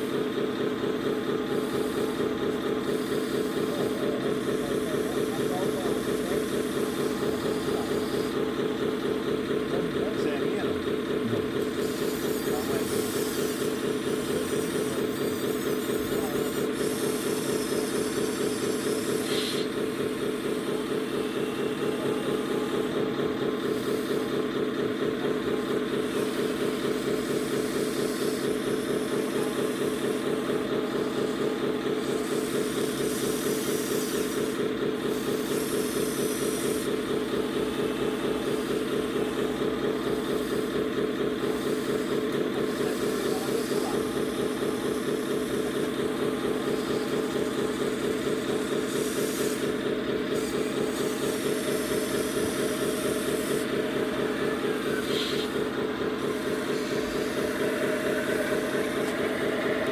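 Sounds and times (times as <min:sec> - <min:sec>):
simulated diesel engine idling: 0:00.0 - 0:59.9.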